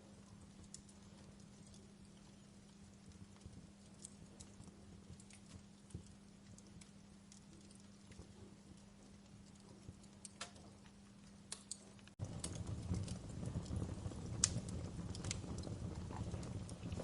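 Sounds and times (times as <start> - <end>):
burning logs rushing: 0.0 - 17.0
wood fire crackling: 0.0 - 17.0.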